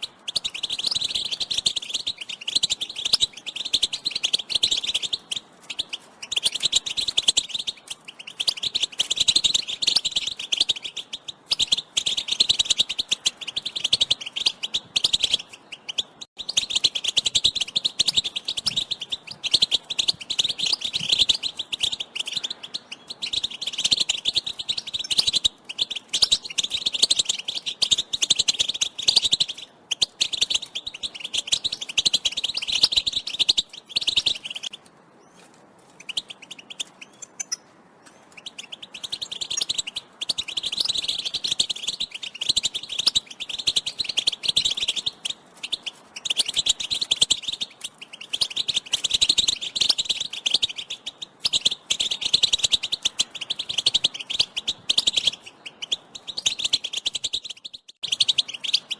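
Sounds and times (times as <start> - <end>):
goldfinch twittering song: 0.0 - 58.9.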